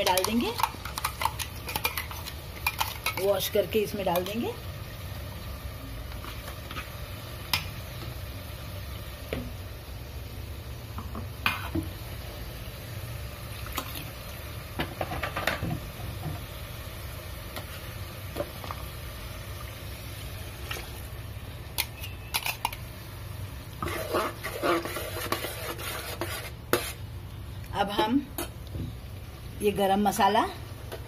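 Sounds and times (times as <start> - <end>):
paste frying in hot oil: 0.0 - 31.0.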